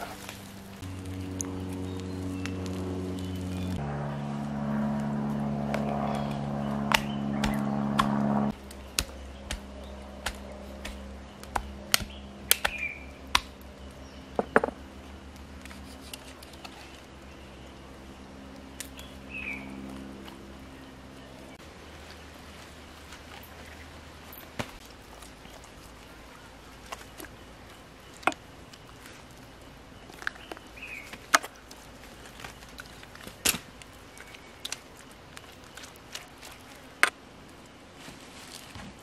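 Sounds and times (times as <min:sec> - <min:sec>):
steady multi-tone hum: 0:00.0 - 0:39.0.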